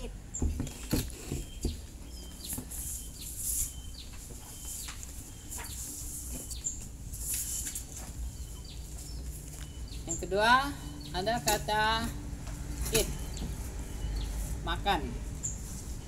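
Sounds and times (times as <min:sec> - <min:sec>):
small bird chirping: 0:00.3 - 0:12.1, 0:12.8 - 0:16.0.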